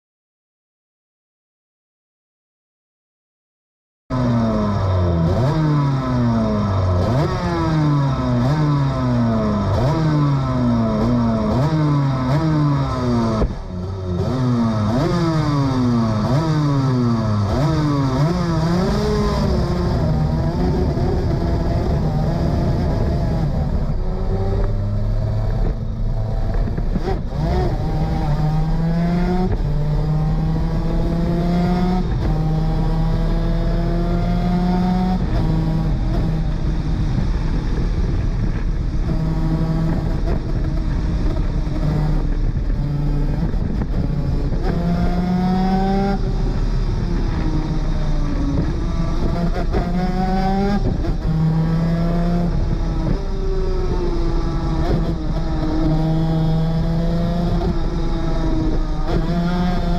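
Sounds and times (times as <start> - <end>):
two-stroke kart engine racing: 4.2 - 59.9.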